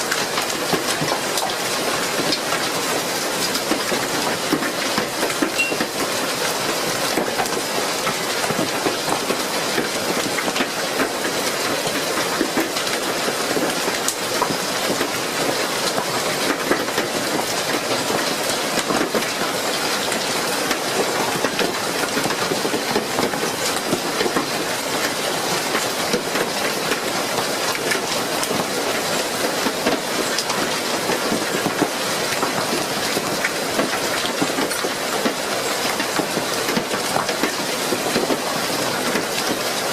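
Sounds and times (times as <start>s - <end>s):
hail and heavy rain pelting: 0.0s - 39.9s.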